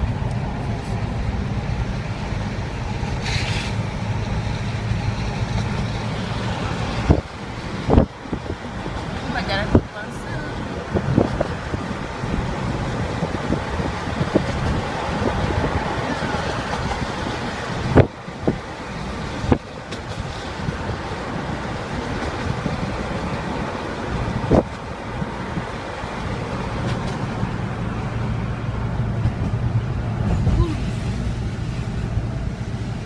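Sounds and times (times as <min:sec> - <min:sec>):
tyre and engine rumble: 0:00.0 - 0:33.0.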